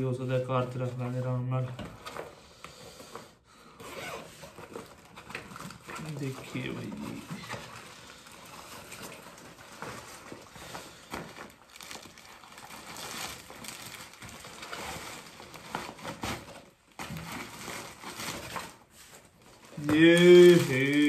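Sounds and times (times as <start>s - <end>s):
bag and plastic rustling: 3.1s - 21.0s.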